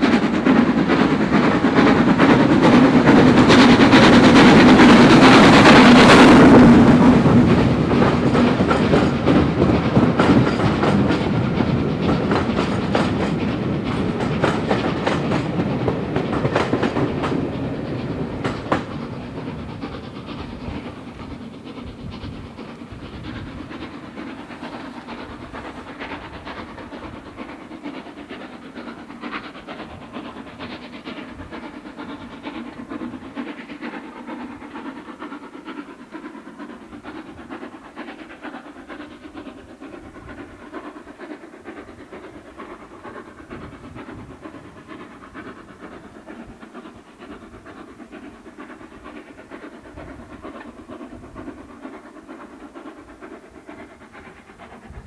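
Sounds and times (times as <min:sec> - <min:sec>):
steam locomotive steam: 0:00.0 - 0:55.0
train wheels on track: 0:00.0 - 0:55.0.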